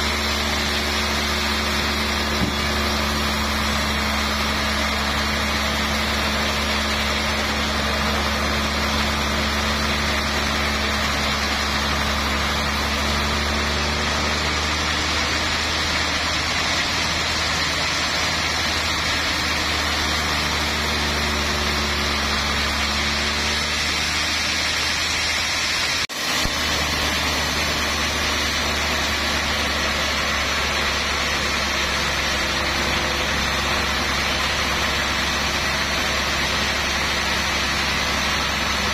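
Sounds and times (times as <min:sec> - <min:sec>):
band saw cutting log: 0:00.0 - 0:38.9
low machine hum: 0:00.0 - 0:38.9.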